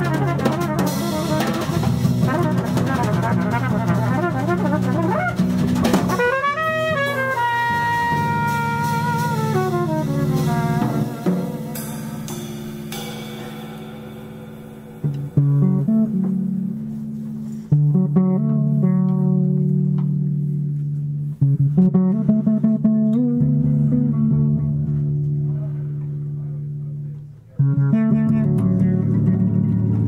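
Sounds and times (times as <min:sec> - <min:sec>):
electric bass guitar plucked: 0:00.0 - 0:13.2, 0:15.0 - 0:30.0.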